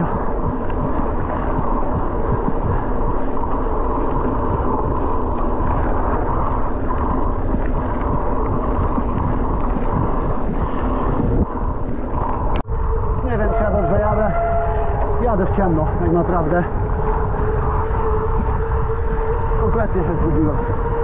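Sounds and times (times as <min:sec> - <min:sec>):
bicycle rolling fast on trail: 0:00.0 - 0:21.0
wind buffeting microphone: 0:00.0 - 0:21.0.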